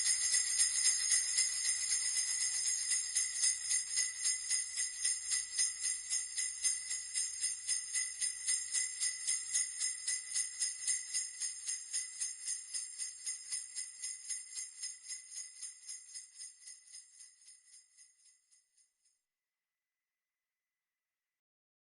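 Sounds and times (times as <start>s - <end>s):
sleigh bells shaking: 0.0s - 18.6s.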